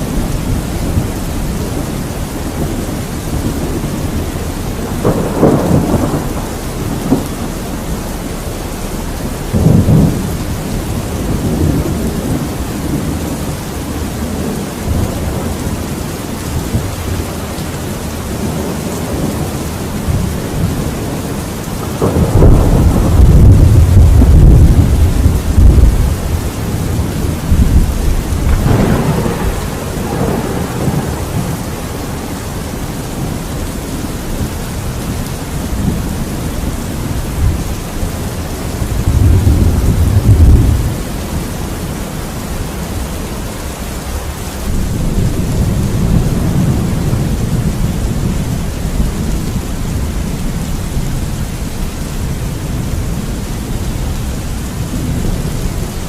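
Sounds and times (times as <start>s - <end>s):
rolling thunder: 0.0s - 56.0s
steady rain: 0.0s - 56.0s.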